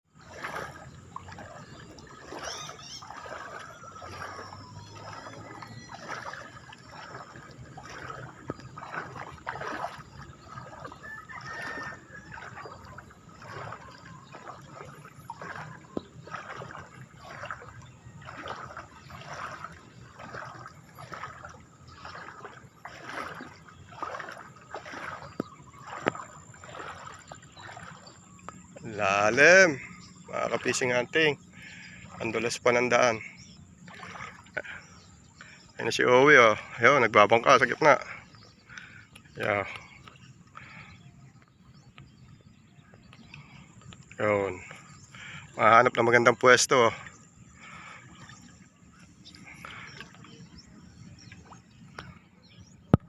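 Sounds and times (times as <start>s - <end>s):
water sloshing and splashing: 0.0s - 53.0s.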